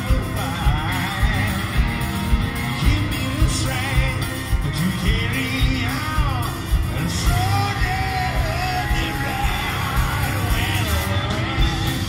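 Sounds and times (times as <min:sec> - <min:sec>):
blues band playing: 0:00.0 - 0:12.0.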